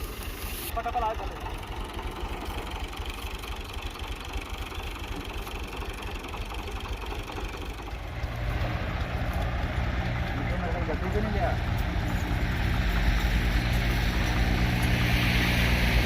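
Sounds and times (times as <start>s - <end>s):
tractor engine chugging: 0.0s - 16.0s.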